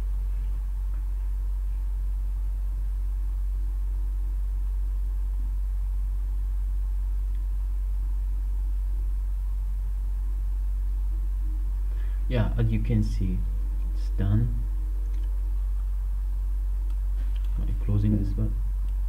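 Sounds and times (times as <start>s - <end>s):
low-pitched hum: 0.0s - 19.0s.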